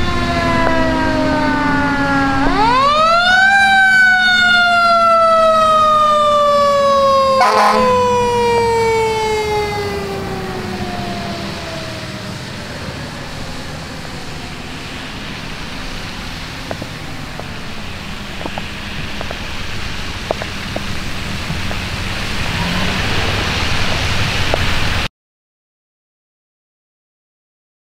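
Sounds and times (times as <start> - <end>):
fire engine siren: 0.0 - 25.1
tyres hissing on wet road: 0.1 - 25.1.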